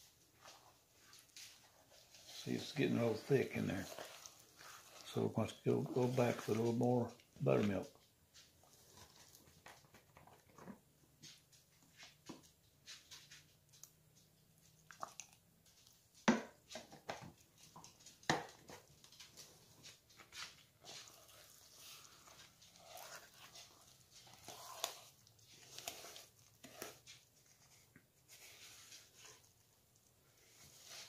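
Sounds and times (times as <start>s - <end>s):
spoon stirring batter in bowl: 0.0s - 31.0s.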